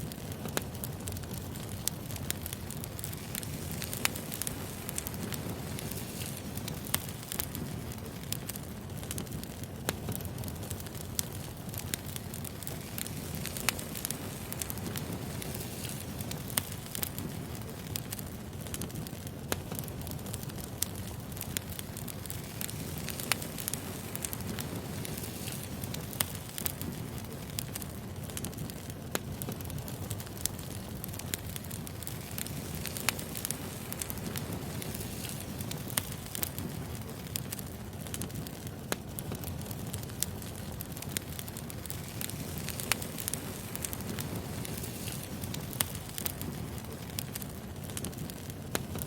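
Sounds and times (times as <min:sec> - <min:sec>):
burning logs crackling: 0:00.0 - 0:49.0
low rumble of flames: 0:00.0 - 0:49.0.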